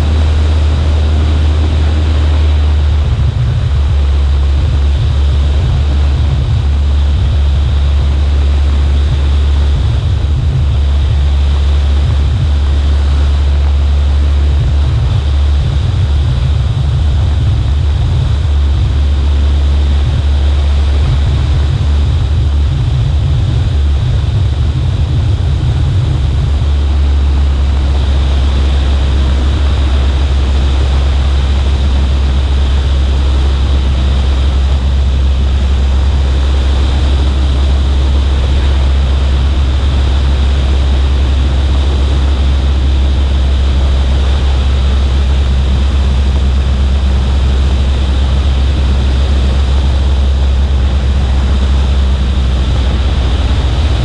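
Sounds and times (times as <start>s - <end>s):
air rushing over wing: 0.0s - 54.0s
propeller plane engine droning: 0.0s - 54.0s.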